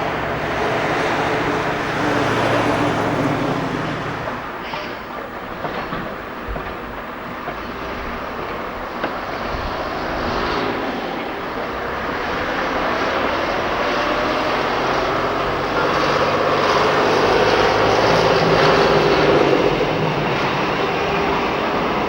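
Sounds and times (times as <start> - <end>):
diesel train engine droning: 0.0 - 22.0.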